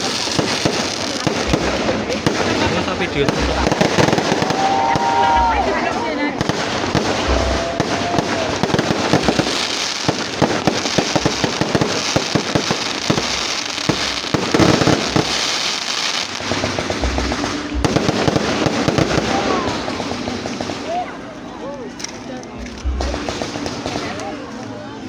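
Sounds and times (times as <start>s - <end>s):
fireworks cracking and banging: 0.0s - 25.0s.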